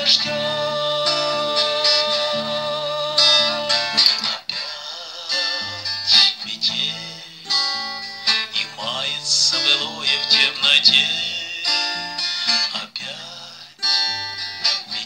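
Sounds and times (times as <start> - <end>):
acoustic guitar strummed: 0.0 - 15.0
man singing: 0.0 - 15.0.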